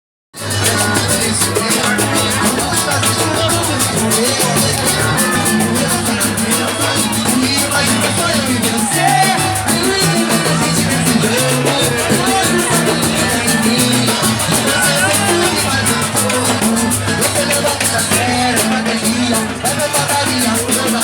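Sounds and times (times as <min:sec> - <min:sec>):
upbeat latin-style music: 0:00.4 - 0:21.0.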